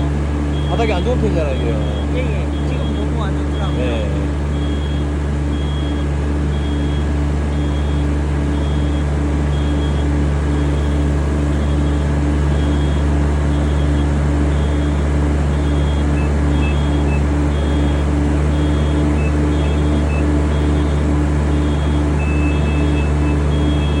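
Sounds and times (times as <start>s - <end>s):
pulsing engine hum: 0.0s - 24.0s.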